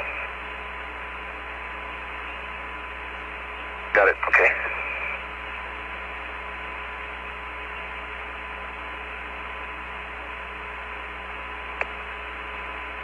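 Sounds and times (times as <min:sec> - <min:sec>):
radio hiss and hum: 0:00.0 - 0:13.0.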